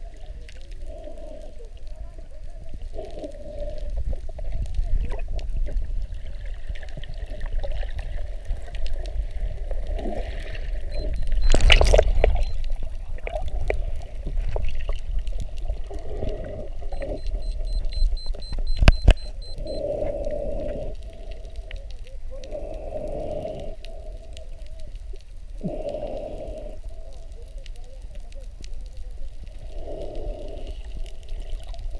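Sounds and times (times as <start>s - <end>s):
underwater low rumble: 0.0s - 31.9s
water sloshing and bubbling: 0.0s - 31.9s.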